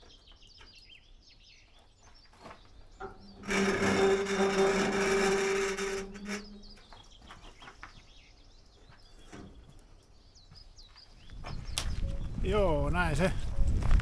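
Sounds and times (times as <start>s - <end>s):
faint birdsong: 0.0s - 13.6s.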